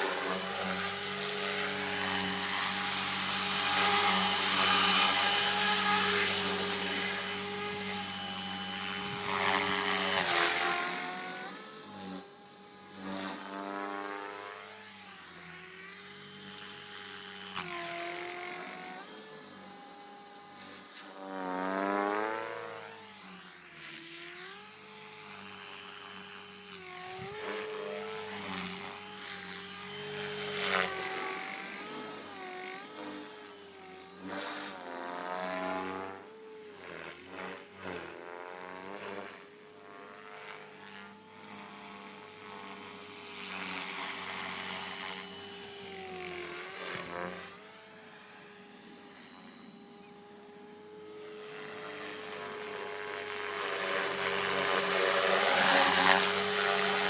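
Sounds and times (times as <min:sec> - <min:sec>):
rc helicopter motor whine: 0:00.0 - 0:57.0.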